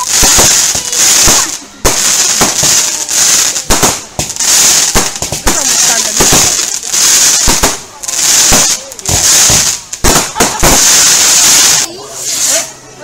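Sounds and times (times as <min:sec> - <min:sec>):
firework bangs: 0:00.0 - 0:12.8
crackling firework stars hissing: 0:00.0 - 0:13.0.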